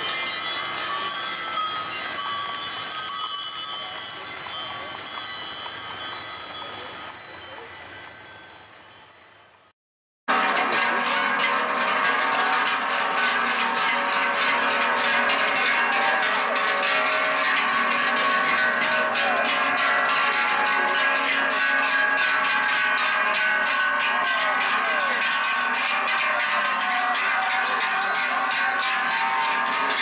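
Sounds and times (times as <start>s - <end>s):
cowbells clanging: 0.0s - 9.7s, 10.3s - 30.0s.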